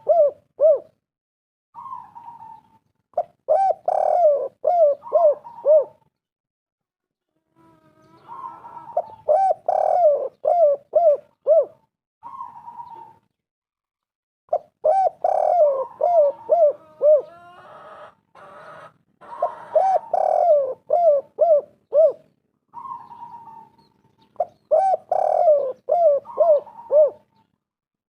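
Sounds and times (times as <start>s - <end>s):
dove cooing: 0.0s - 1.0s, 1.8s - 6.1s, 7.6s - 13.3s, 14.5s - 27.5s.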